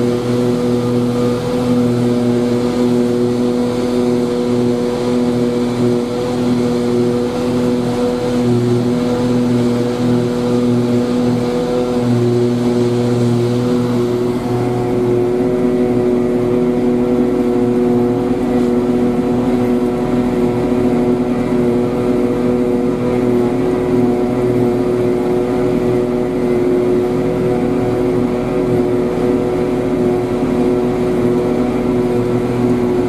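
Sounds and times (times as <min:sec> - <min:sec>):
diesel farm machinery engine drone: 0:00.0 - 0:33.0.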